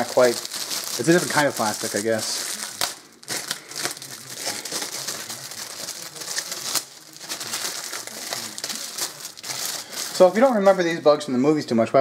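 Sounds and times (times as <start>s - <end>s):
foil packing rustling: 0.0s - 11.1s.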